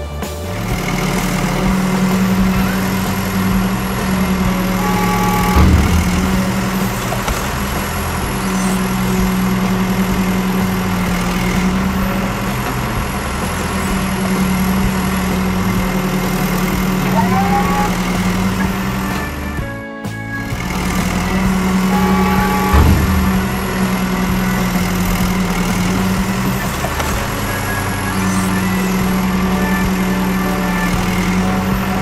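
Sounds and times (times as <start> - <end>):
bulldozer engine drone: 0.0 - 32.0.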